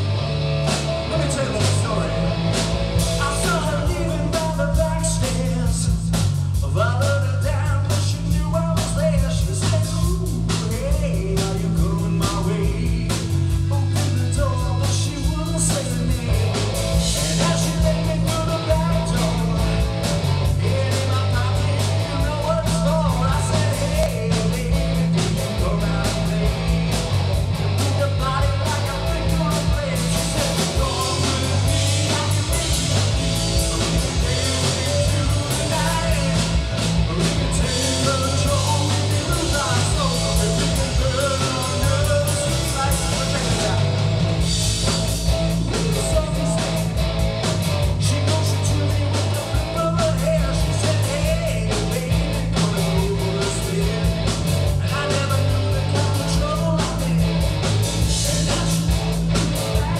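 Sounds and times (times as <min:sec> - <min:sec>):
bass guitar: 0:00.0 - 0:59.9
drum kit: 0:00.0 - 0:59.9
electric guitar: 0:00.0 - 0:59.9
man singing: 0:00.9 - 0:27.0, 0:27.6 - 0:44.0, 0:44.8 - 0:47.0, 0:47.7 - 0:59.9.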